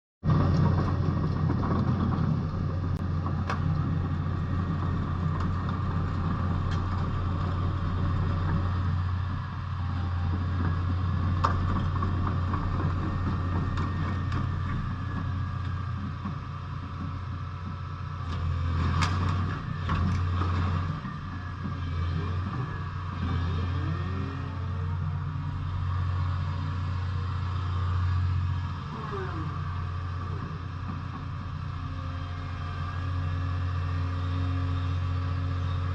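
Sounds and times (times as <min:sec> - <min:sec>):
excavator diesel engine humming: 0:00.2 - 0:35.9.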